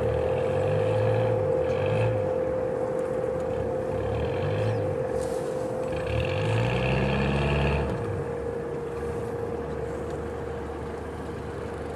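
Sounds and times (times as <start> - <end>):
diesel engine surging and idling: 0.0 - 11.9
steady whine: 0.0 - 11.9.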